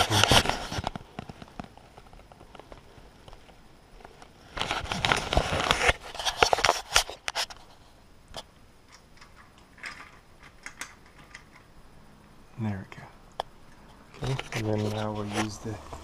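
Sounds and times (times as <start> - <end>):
rustling and scraping: 0.0 - 11.7, 13.7 - 16.0.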